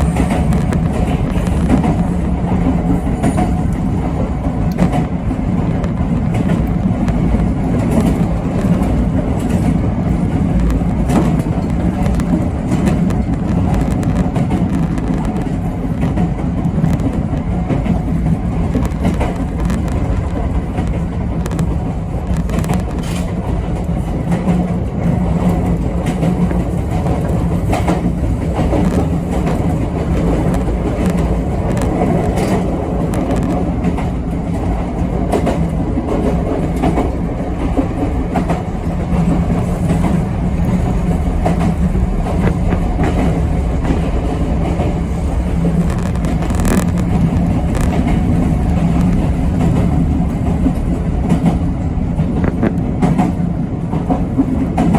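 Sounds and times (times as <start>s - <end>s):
train wheels rumbling on rail: 0.0s - 54.9s
wheels clicking over rail joints: 0.0s - 54.9s.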